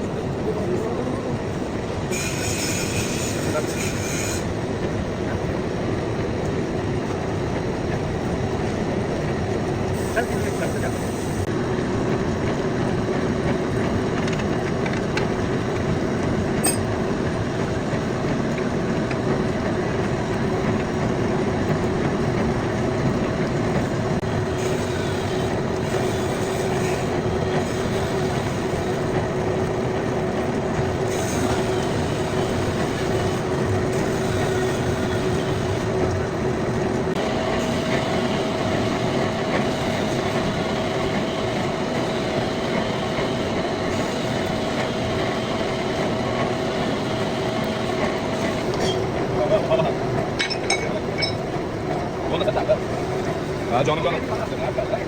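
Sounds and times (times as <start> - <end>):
metal lathe running: 1.5 - 55.0.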